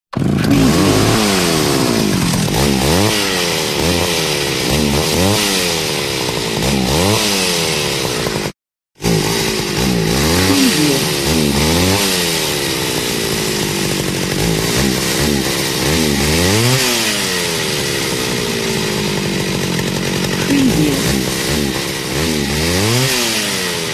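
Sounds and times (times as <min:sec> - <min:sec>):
chainsaw engine revving: 0:00.1 - 0:23.9.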